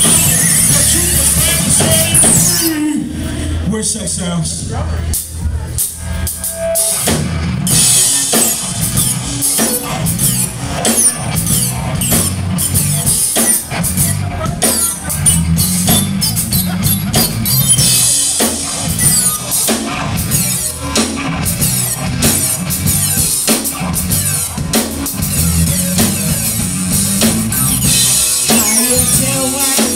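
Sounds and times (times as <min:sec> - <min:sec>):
rock band playing live: 0:00.0 - 0:29.9.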